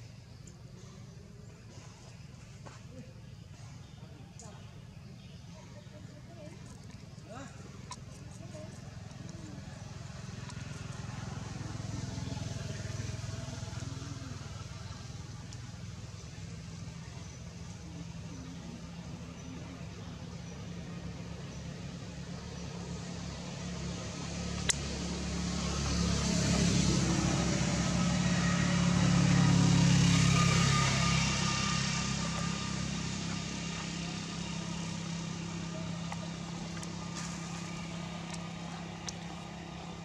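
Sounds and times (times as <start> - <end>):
vehicle engine passing by: 5.2 - 40.0.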